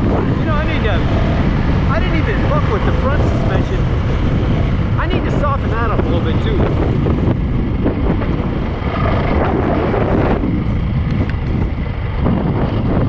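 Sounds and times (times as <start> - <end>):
dirt bike engine running: 0.0 - 13.0
wind buffeting on microphone: 0.0 - 13.0.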